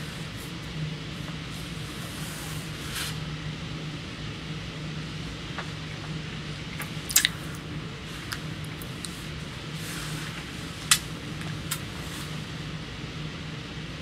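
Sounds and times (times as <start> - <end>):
room noise hum and hiss: 0.0 - 14.0.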